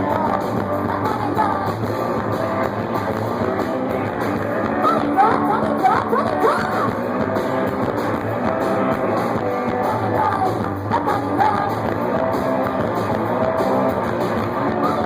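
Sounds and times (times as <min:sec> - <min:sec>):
live rock band playing: 0:00.0 - 0:15.0
sliding guitar notes: 0:00.0 - 0:15.0.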